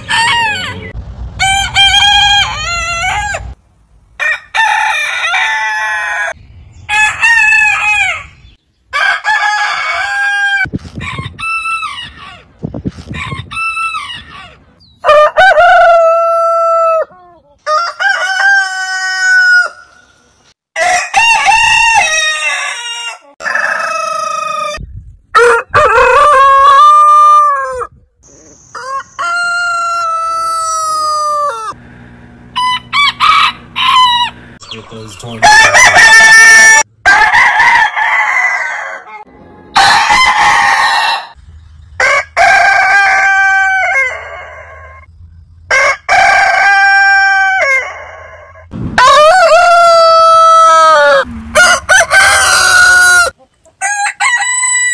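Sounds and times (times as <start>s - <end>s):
roosters crowing: 0.0s - 3.6s, 4.2s - 20.2s, 20.8s - 54.9s.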